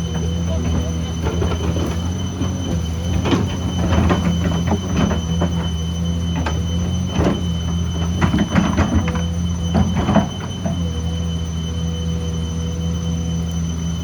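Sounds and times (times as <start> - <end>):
excavator diesel engine: 0.0 - 14.0
metallic clanks and squeals: 0.0 - 14.0.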